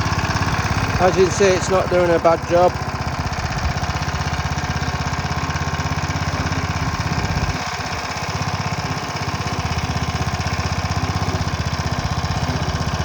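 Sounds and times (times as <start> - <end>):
lawn mower engine cutting grass: 0.0 - 13.0.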